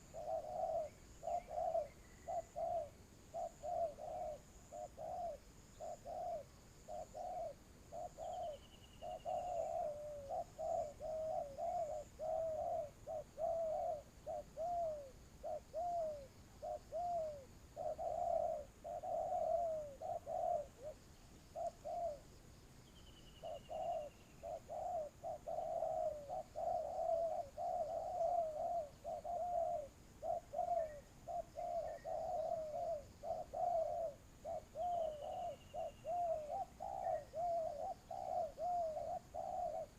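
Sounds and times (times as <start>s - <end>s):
doves cooing: 0.0s - 22.3s, 23.3s - 39.9s
small bird chirp: 0.0s - 39.9s.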